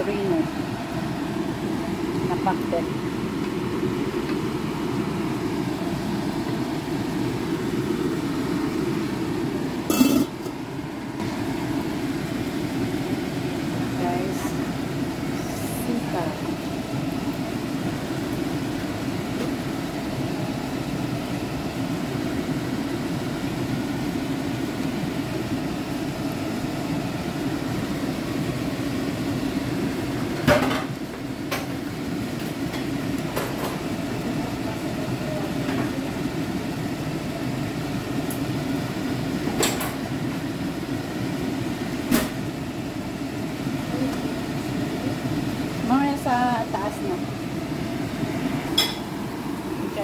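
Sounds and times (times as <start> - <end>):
low kitchen rumble: 0.0 - 50.0.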